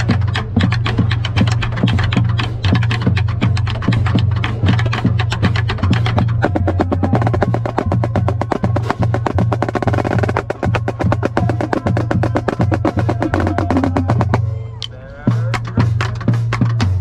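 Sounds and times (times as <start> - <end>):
marching snare drum roll: 0.0 - 14.5, 15.3 - 17.0.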